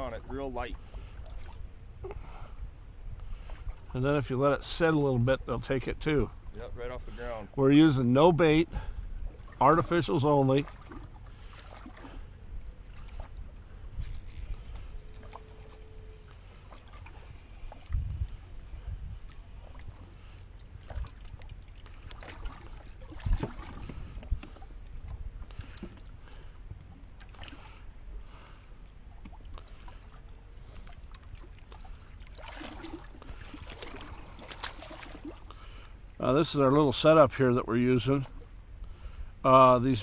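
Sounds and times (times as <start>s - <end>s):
boat engine low rumble: 0.0s - 40.0s.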